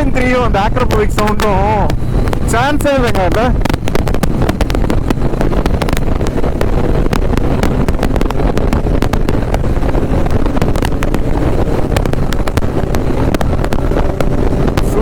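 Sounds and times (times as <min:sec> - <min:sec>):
motorcycle engine and road rumble: 0:00.0 - 0:15.0
wind buffeting microphone: 0:00.0 - 0:15.0.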